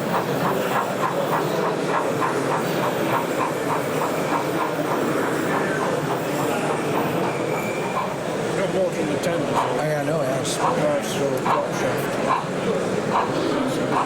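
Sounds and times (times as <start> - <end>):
model train wheels clicking on rails: 0.0 - 14.0.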